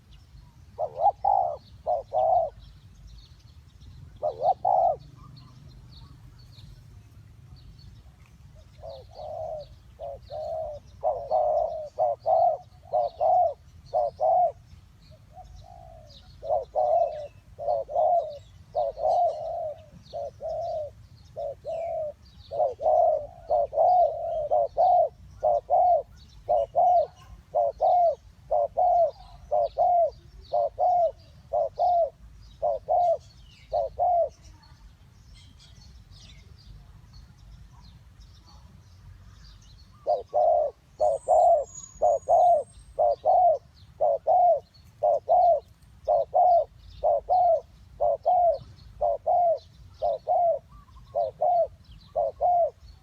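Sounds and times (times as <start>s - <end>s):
doves cooing: 0.0s - 2.6s, 4.1s - 6.6s, 8.5s - 34.5s, 39.9s - 53.0s
small birds chirping faintly: 0.0s - 53.0s.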